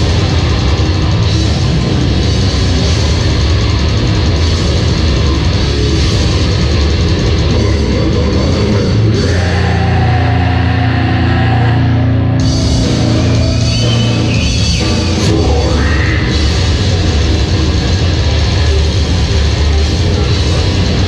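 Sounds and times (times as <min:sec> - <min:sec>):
death metal band playing live: 0:00.0 - 0:21.0.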